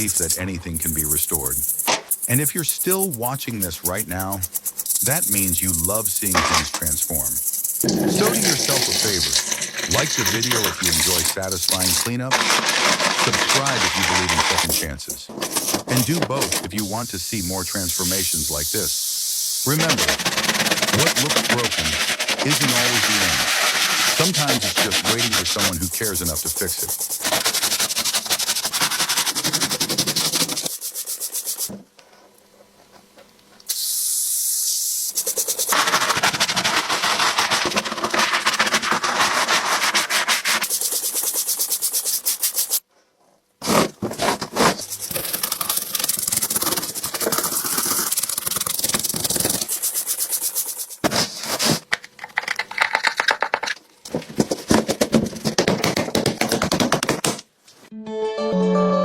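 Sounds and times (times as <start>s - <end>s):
scrubbing keyboard: 0.0s - 18.9s, 19.7s - 31.7s, 35.2s - 42.8s, 43.6s - 57.4s.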